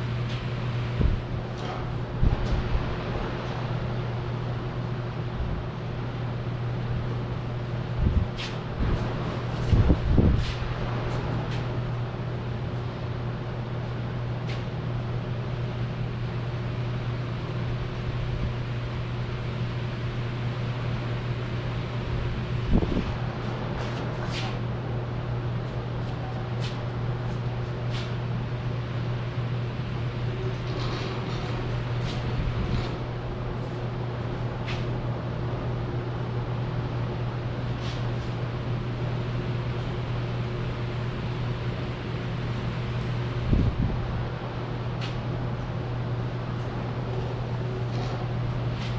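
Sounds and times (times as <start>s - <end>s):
low mechanical hum: 0.0s - 48.9s.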